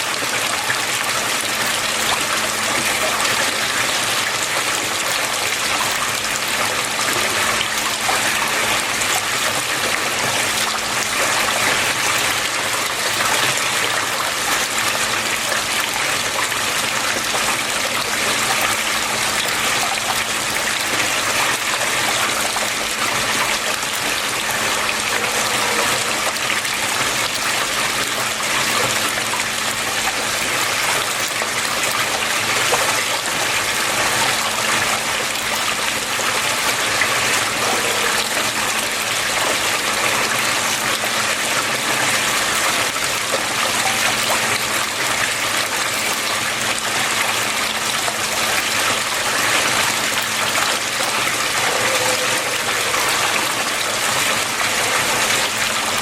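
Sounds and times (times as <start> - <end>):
water flowing and splashing: 0.0 - 56.0.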